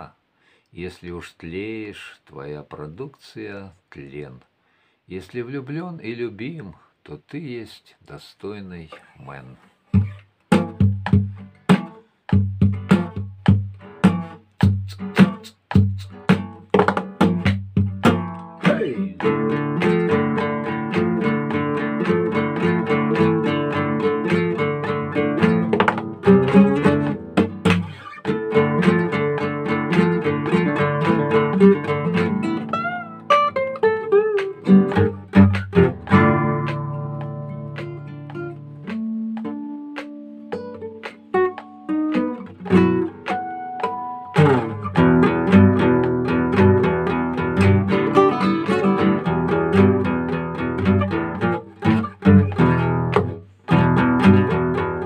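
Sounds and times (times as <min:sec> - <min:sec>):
fingerpicked acoustic guitar: 0:08.9 - 0:55.0.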